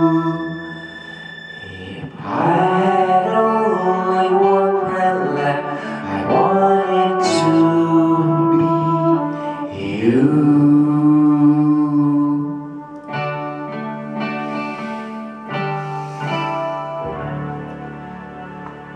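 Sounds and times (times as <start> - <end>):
soft ballad music: 0.0 - 18.9.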